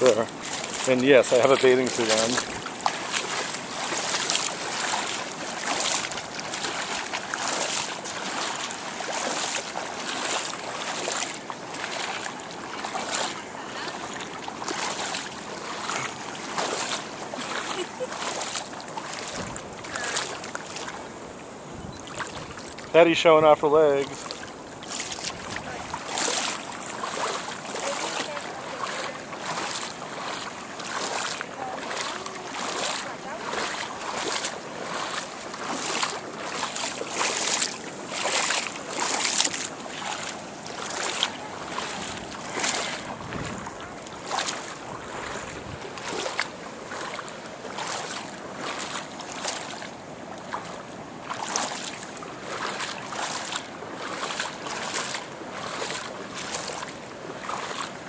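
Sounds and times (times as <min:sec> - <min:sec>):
footsteps wading through water: 0:00.0 - 0:58.0.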